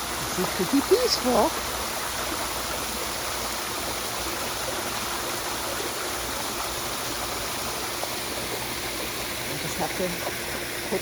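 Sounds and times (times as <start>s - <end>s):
water splashing from pool waterfall: 0.0s - 11.0s.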